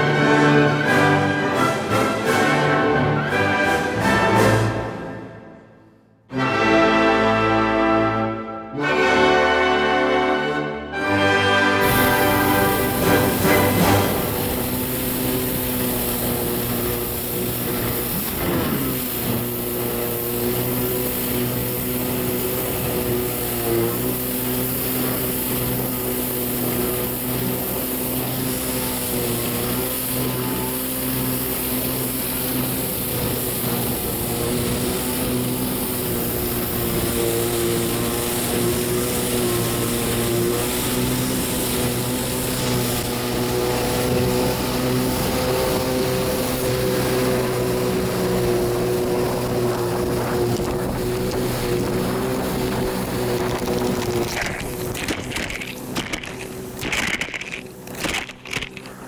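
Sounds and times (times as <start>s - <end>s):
jet ski engine running: 0.0s - 2.4s, 11.2s - 59.0s
constant hiss: 11.5s - 59.0s.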